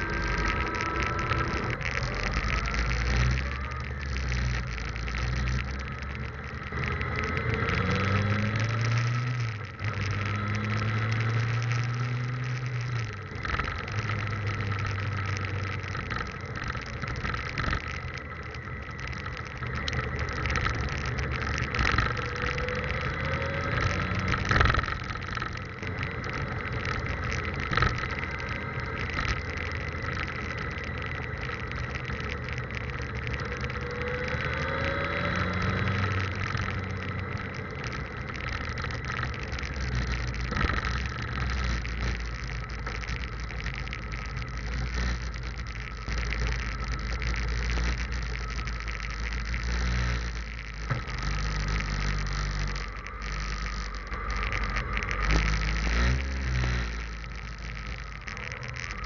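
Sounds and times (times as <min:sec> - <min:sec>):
motorcycle engine rumble: 0:00.0 - 0:59.0
thin whine: 0:00.0 - 0:59.0.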